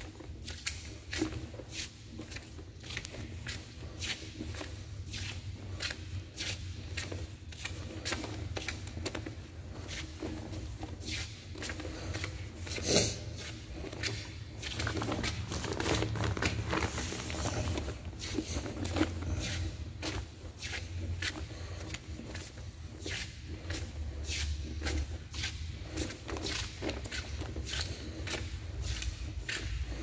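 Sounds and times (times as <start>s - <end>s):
footsteps echoing in drain pipe: 0.0s - 30.0s.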